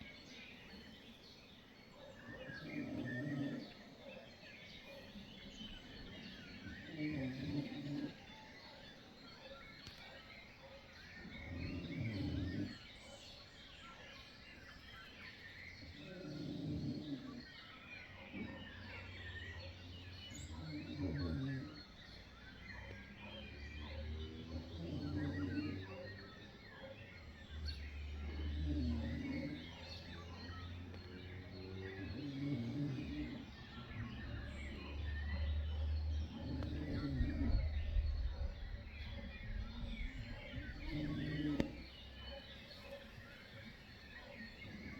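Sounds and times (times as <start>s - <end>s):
birds chirping and singing: 0.0s - 44.9s.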